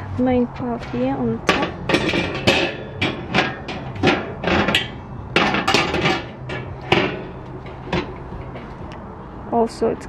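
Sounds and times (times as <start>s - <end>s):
metal grate clanking on grill: 0.6s - 8.9s.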